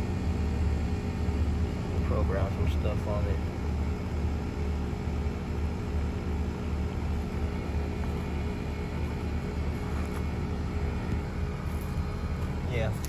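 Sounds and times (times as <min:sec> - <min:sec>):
air conditioner compressor hum: 0:00.0 - 0:13.0.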